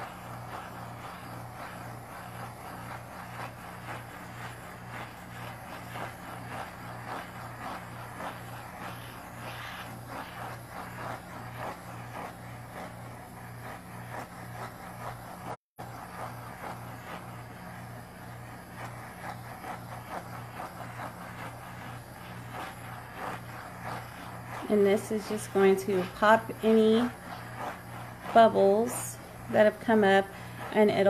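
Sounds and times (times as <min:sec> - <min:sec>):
pulsing low hum: 0:00.0 - 0:31.0
torch hissing: 0:00.0 - 0:31.0.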